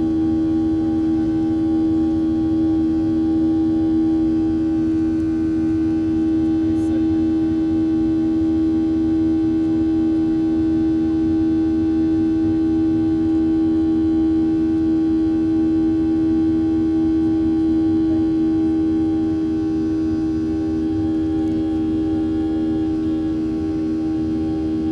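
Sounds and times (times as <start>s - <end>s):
jet engine drone in cabin: 0.0s - 24.9s.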